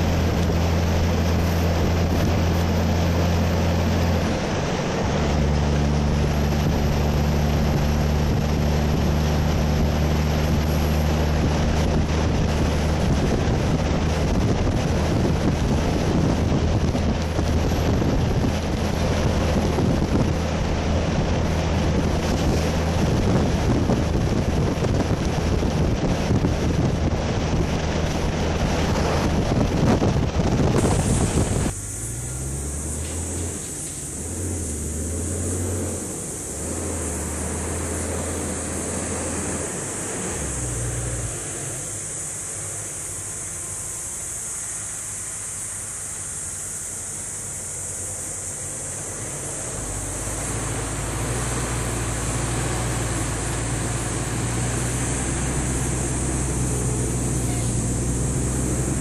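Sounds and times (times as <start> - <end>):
wind rushing over microphone: 0.0 - 45.7, 46.4 - 59.0
diesel truck engine hum: 0.0 - 59.0
road noise: 0.0 - 59.0.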